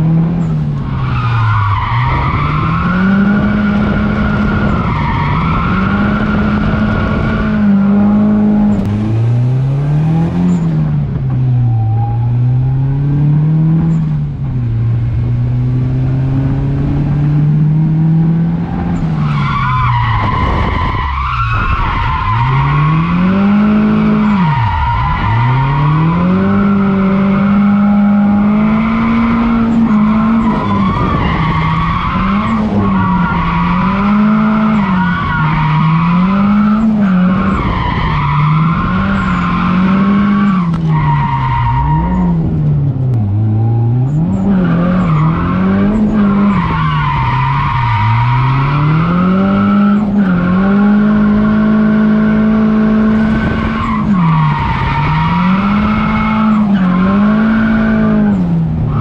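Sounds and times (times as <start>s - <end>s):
car engine revving: 0.0s - 59.0s
tire squeal: 0.4s - 8.9s, 10.0s - 10.8s, 11.4s - 13.1s, 18.8s - 42.7s, 43.3s - 59.0s.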